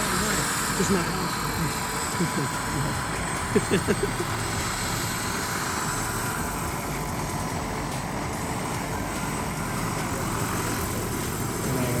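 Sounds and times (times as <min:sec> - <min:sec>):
model helicopter rotor whine: 0:00.0 - 0:12.0.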